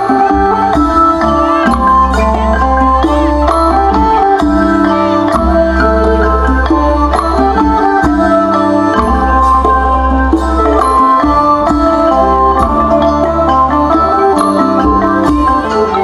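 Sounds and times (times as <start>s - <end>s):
light percussion: 0.0s - 16.0s
mallet struck melody: 0.0s - 16.0s.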